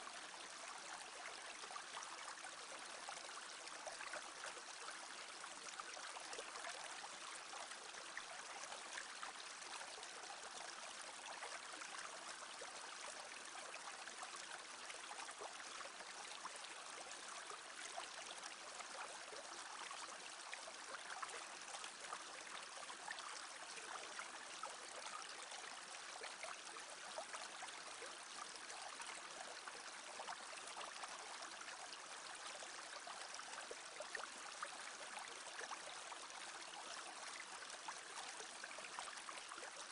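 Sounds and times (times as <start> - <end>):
brook babbling: 0.0 - 39.9
water trickling and splashing: 0.0 - 39.9.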